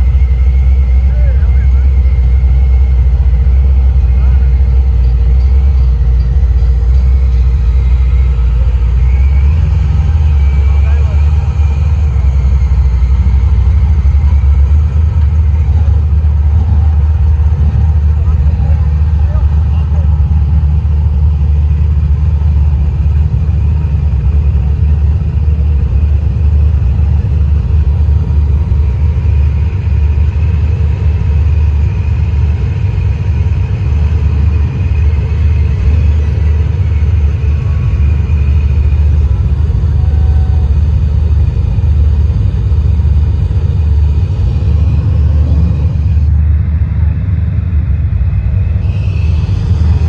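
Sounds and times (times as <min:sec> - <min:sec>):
car engines rumbling: 0:00.0 - 0:50.0.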